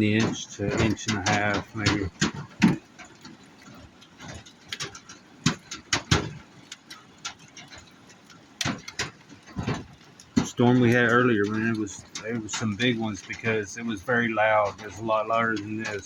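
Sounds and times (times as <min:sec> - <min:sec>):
hailstones striking trailer roof: 0:00.0 - 0:16.0.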